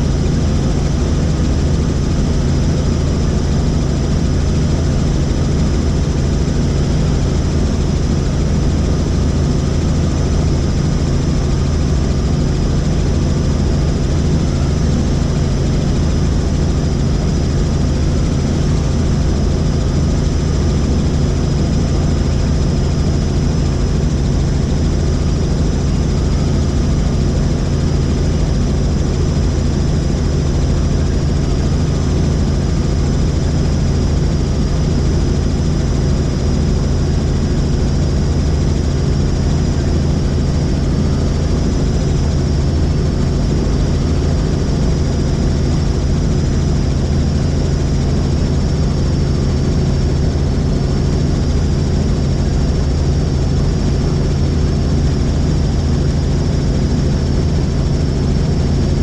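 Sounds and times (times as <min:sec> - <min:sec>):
helicopter rotor and engine drone: 0:00.0 - 0:59.0
high turbine whine: 0:00.0 - 0:59.0.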